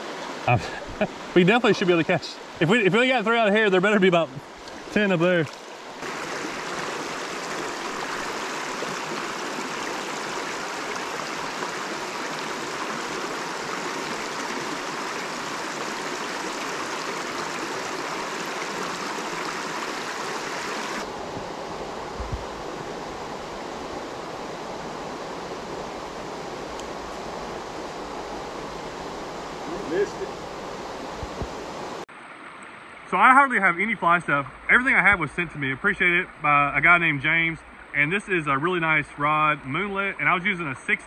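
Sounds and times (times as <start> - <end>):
brook water rushing: 0.0 - 40.7.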